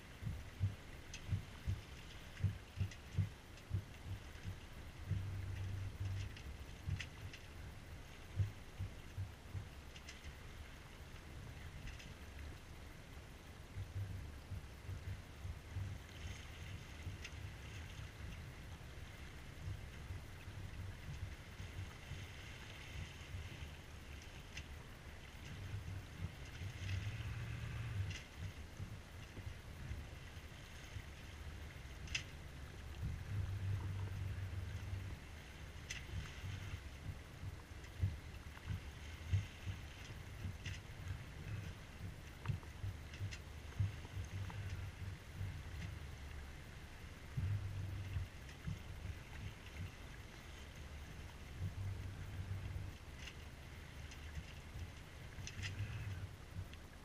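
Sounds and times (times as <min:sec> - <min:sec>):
water splashing along hull: 0:00.0 - 0:57.0
wind on microphone: 0:00.0 - 0:57.0.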